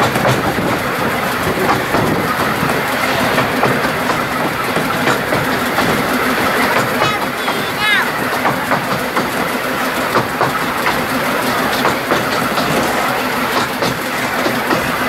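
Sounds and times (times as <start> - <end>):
train rumbling on track: 0.0 - 15.0
wheels clicking over rail joints: 0.0 - 15.0.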